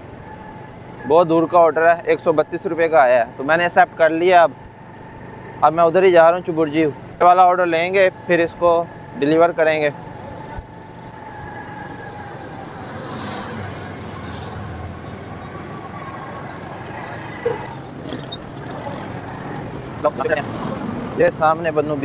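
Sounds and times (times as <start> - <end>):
motorcycle engine and road noise: 0.0 - 22.0
other motorbikes nearby: 0.0 - 22.0.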